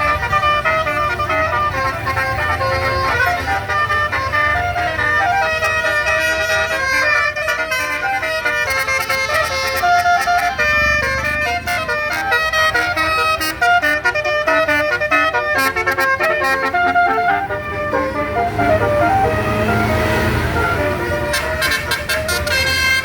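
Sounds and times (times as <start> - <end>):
bus horn playing a melody: 0.0 - 23.0.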